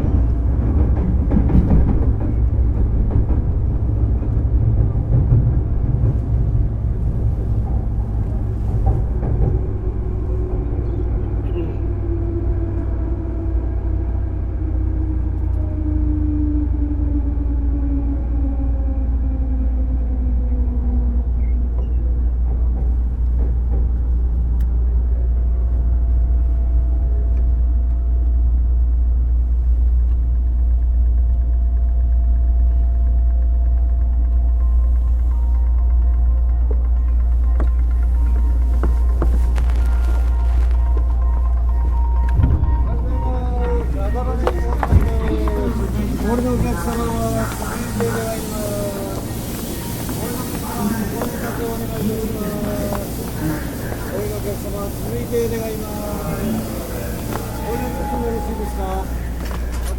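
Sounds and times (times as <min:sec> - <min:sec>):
train rumbling along rails: 0:00.0 - 0:59.9.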